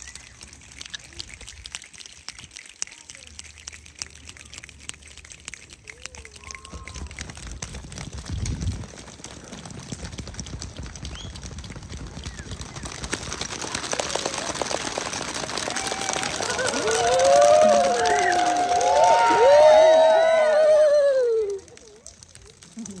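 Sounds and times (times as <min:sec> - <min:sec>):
group making rain sounds: 0:00.0 - 0:23.0.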